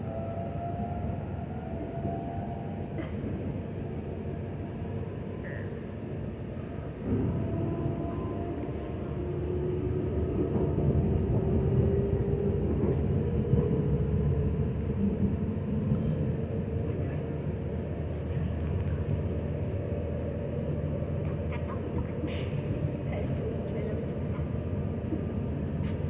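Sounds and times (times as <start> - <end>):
train rumbling inside carriage: 0.0 - 26.0.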